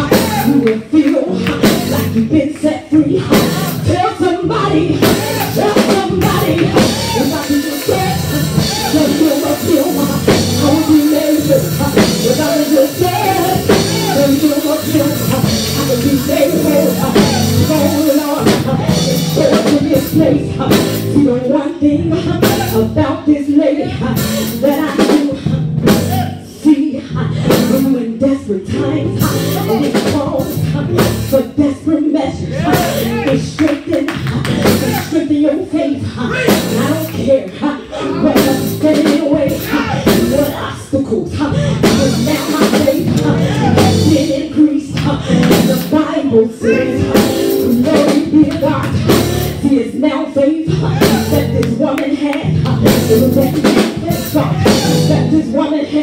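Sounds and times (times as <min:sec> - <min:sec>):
band playing: 0:00.0 - 0:02.3, 0:03.3 - 0:21.5, 0:22.2 - 0:23.0, 0:24.2 - 0:26.5, 0:28.8 - 0:31.4, 0:32.4 - 0:33.6, 0:34.2 - 0:35.3, 0:36.2 - 0:40.6, 0:41.6 - 0:49.8, 0:50.7 - 0:55.6
drum kit: 0:00.0 - 0:21.5, 0:22.2 - 0:23.0, 0:24.1 - 0:26.4, 0:27.4 - 0:28.0, 0:29.1 - 0:31.6, 0:32.6 - 0:35.3, 0:36.3 - 0:37.3, 0:38.2 - 0:40.7, 0:41.3 - 0:49.8, 0:50.7 - 0:55.6
person singing into a microphone: 0:00.0 - 0:56.0.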